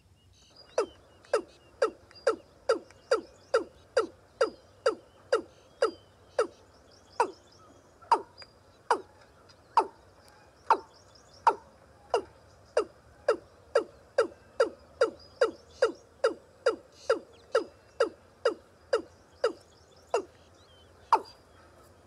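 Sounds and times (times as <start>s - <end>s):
faint high twittering: 0.0s - 22.0s
bird calling with descending notes: 0.5s - 22.0s.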